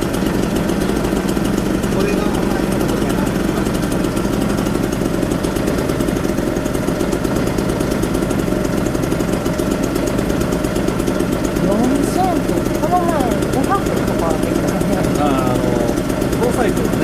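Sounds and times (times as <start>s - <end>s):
two-stroke moped engine idling: 0.0s - 17.0s.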